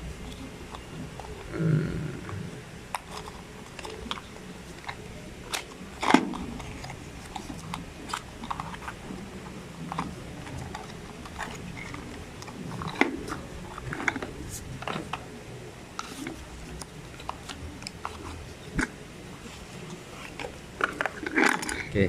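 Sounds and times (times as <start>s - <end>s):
crackles and clicks: 2.2s - 22.0s.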